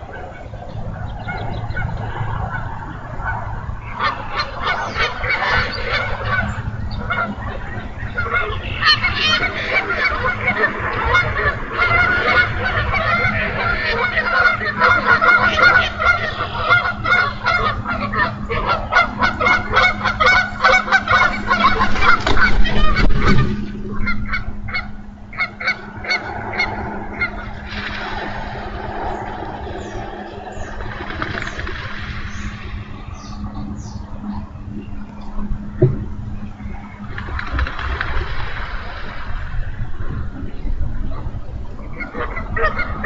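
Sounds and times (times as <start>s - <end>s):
birds calling: 0.0s - 43.0s
steady low hum: 0.0s - 43.0s.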